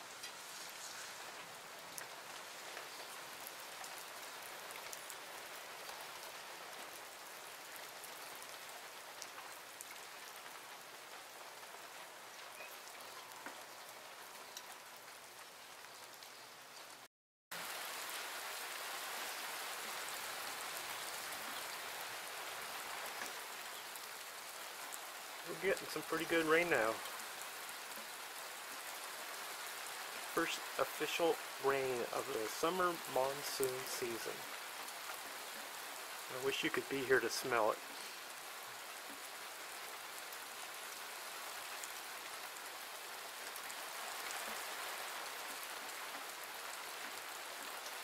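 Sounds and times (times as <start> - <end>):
rain falling: 0.0 - 48.0.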